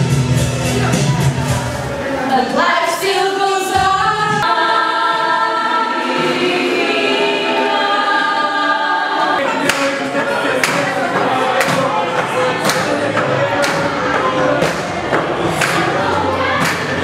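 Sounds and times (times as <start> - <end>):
women's choir singing a cappella: 2.2 - 17.0.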